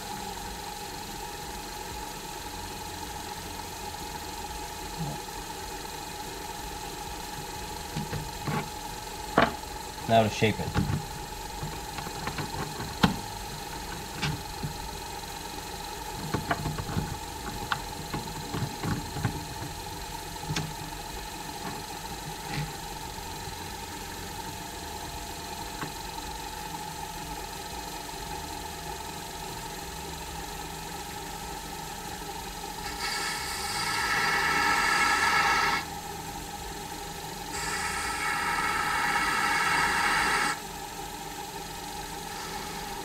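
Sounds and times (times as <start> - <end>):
lathe motor humming: 0.0 - 43.0.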